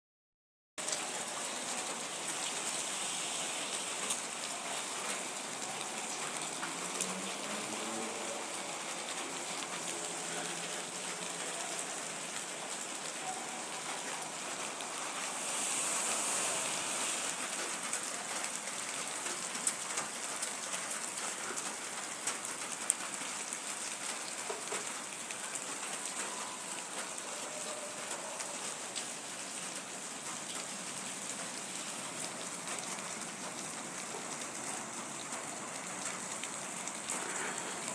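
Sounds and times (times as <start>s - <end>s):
raindrops ticking: 0.8s - 37.9s
steady rain falling: 0.8s - 37.9s.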